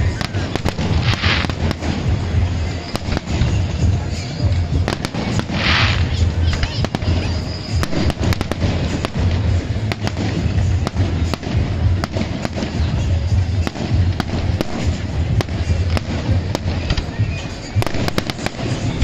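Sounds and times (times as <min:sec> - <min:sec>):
fireworks cracking and popping: 0:00.0 - 0:19.0.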